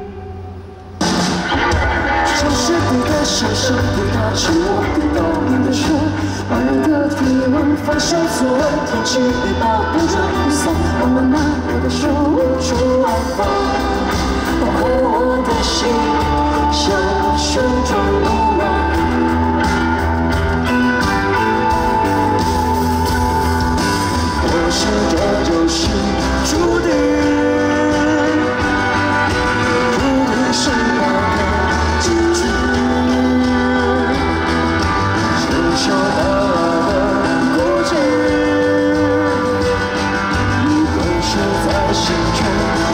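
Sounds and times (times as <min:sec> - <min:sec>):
live pop-rock band playing: 0:00.0 - 0:42.9.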